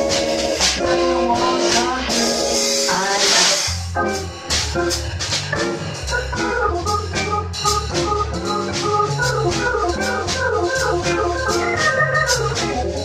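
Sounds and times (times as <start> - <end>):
drums on cymbals: 0.0 - 13.0
jazz organ: 0.0 - 13.0.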